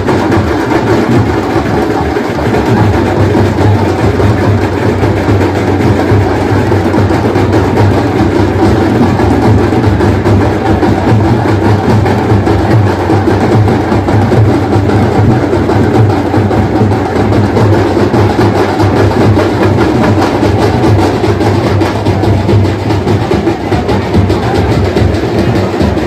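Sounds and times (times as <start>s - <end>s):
drums beaten fast: 0.0s - 26.0s.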